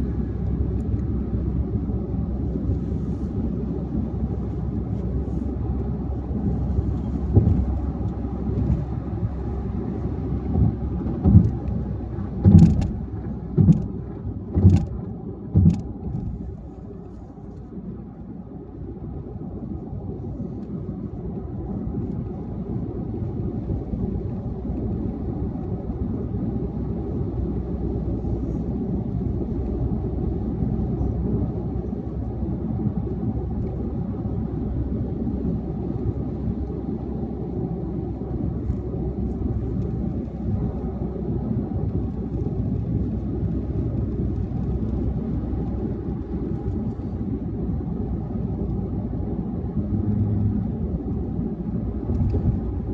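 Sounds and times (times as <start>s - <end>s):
car driving road rumble: 0.0s - 52.9s.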